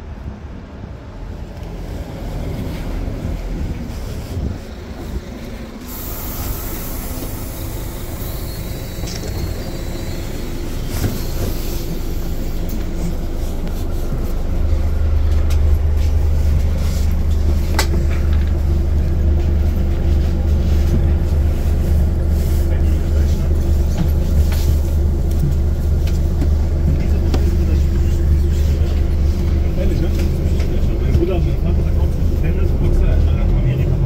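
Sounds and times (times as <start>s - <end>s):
bus engine drone: 0.0s - 34.0s.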